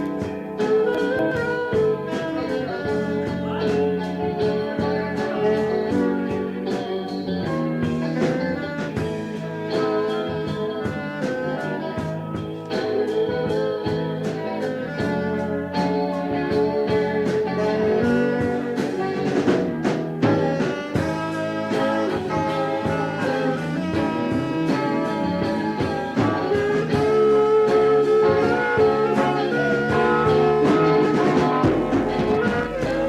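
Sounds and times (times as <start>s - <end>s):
band playing instrumental music: 0.0s - 33.0s.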